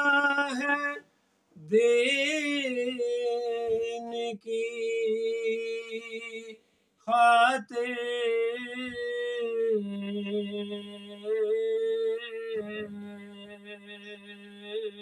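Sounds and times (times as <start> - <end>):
man singing long-held notes: 0.0 - 15.0.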